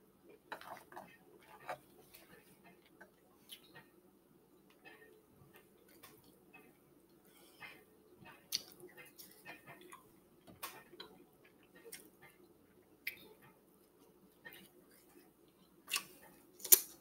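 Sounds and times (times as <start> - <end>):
person chewing food: 0.3 - 3.9, 4.7 - 17.0.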